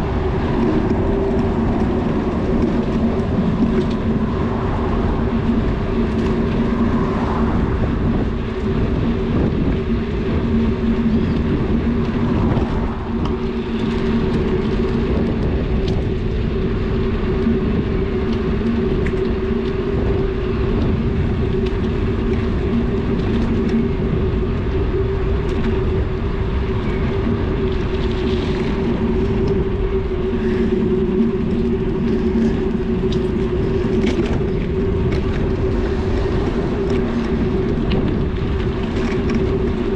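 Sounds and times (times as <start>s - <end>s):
bicycle tyre hum: 0.0s - 39.9s.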